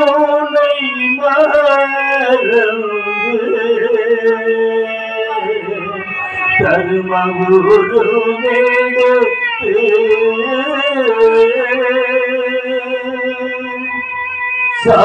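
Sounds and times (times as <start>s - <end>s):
person singing: 0.0s - 15.0s
sustained instrumental tone: 0.0s - 15.0s.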